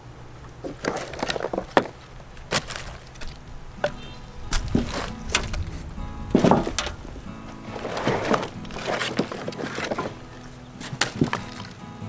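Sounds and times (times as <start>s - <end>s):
firewood clunking: 0.3s - 11.9s.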